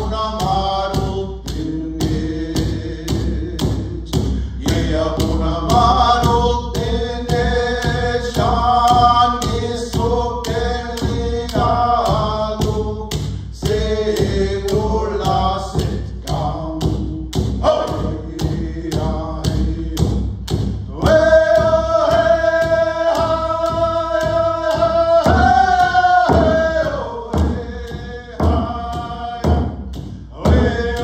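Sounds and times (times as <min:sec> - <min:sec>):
frame drum beat: 0:00.0 - 0:31.0
men chanting a song: 0:00.0 - 0:31.0.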